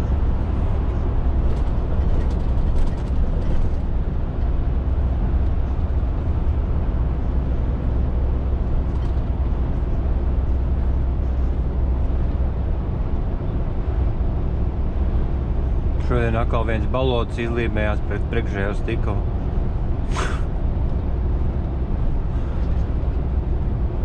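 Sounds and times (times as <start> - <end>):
lorry engine droning: 0.0 - 24.0
road noise: 0.0 - 24.0.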